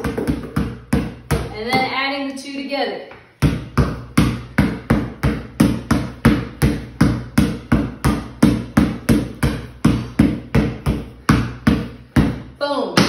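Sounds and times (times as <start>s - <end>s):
basketball bouncing on concrete: 0.0s - 2.2s, 3.1s - 13.0s.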